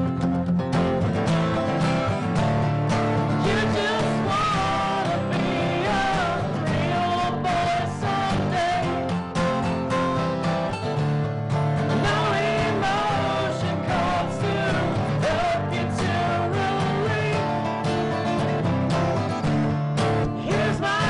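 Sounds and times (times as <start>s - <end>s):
acoustic guitars strummed: 0.0s - 21.0s
bending sliding guitar melody: 0.0s - 21.0s.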